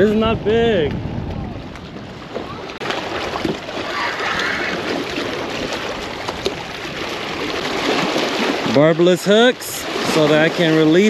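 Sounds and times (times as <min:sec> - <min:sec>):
water along shoreline: 0:00.0 - 0:11.0
wind: 0:00.0 - 0:11.0.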